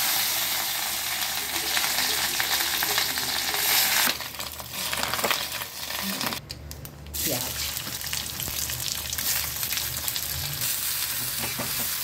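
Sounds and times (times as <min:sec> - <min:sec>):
fish roe sizzling in hot oil: 0:00.0 - 0:06.4, 0:07.2 - 0:12.0.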